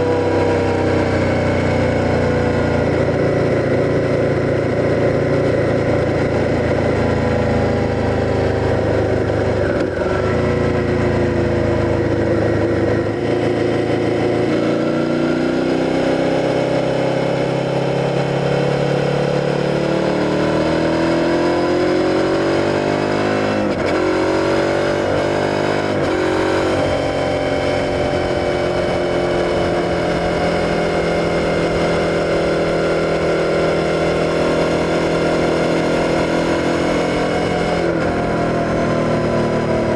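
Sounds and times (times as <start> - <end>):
motorcycle engine on the road: 0.0 - 39.9.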